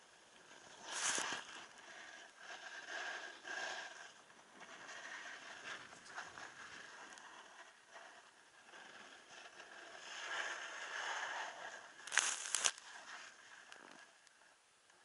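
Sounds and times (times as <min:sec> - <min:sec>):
skis scraping on snow: 0:00.2 - 0:14.2.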